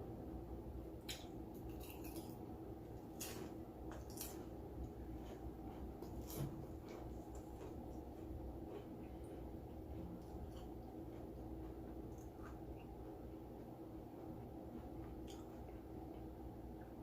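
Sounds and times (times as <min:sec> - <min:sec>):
chewing: 0:01.0 - 0:16.9.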